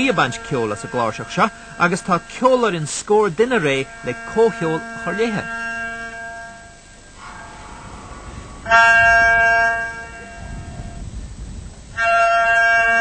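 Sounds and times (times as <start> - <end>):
low wind rumble: 0.0 - 13.0
sustained horn-like tones: 0.0 - 13.0.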